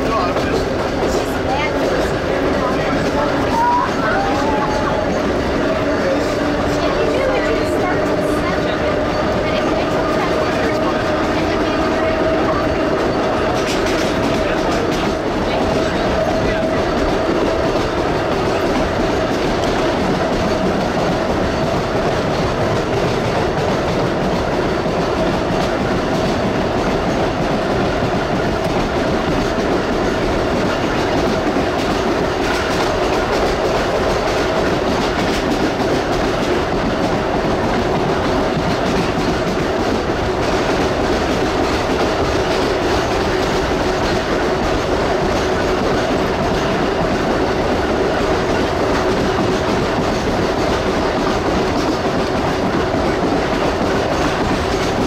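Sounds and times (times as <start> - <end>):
wheels clattering on rails: 0.0 - 55.0.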